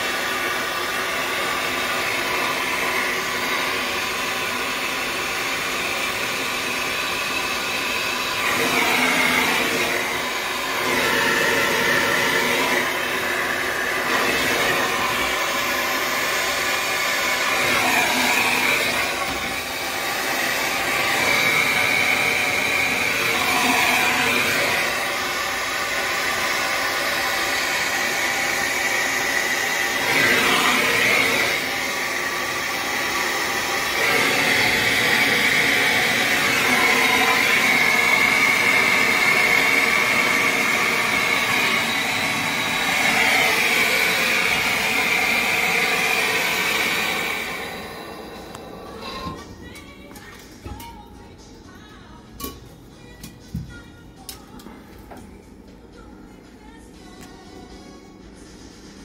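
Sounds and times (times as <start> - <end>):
gas torch flame hissing: 0.0 - 49.4.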